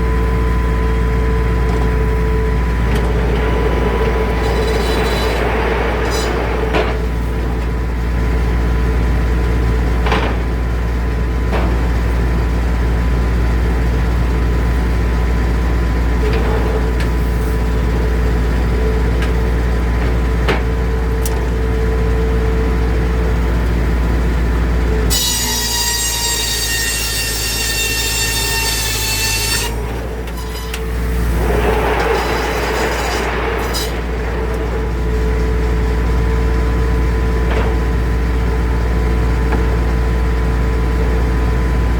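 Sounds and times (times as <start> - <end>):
sawmill droning: 0.0 - 41.9.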